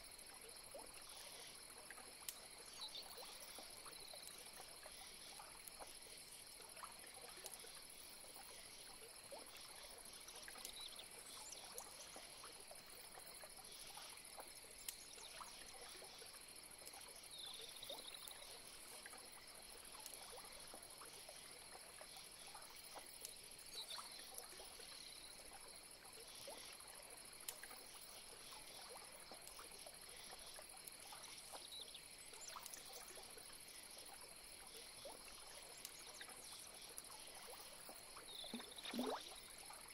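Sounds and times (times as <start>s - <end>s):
faint ticks: 0.0s - 39.9s.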